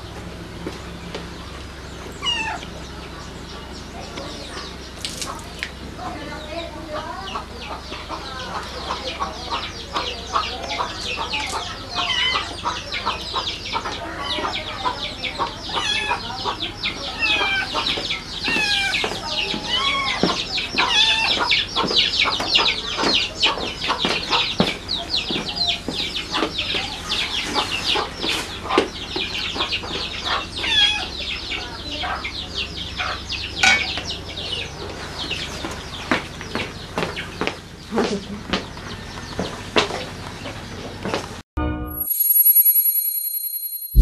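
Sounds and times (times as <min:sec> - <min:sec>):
small birds chirping rapidly: 0:00.0 - 0:41.0.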